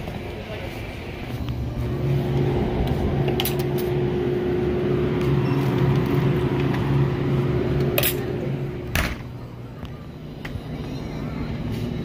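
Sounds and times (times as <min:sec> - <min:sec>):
drink cooler humming: 0:01.0 - 0:12.0.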